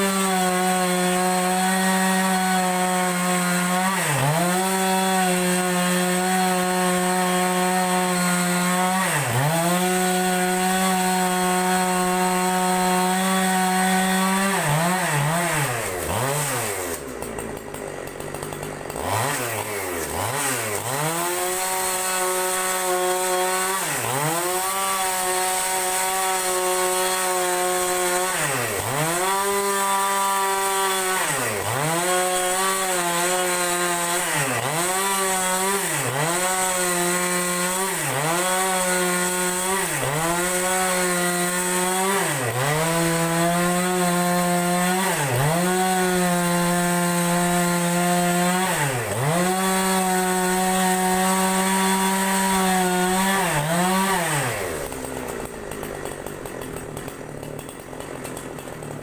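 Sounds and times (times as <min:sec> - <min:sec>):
chainsaw ripping a log: 0:00.0 - 0:59.0.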